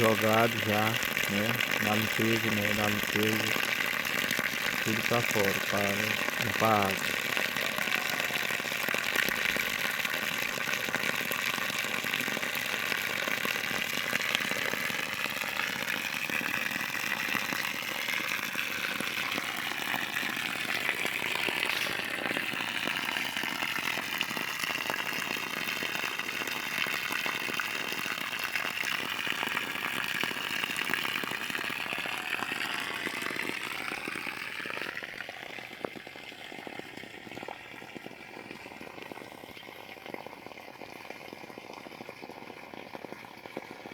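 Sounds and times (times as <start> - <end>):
water running from a well: 0.0 - 43.9.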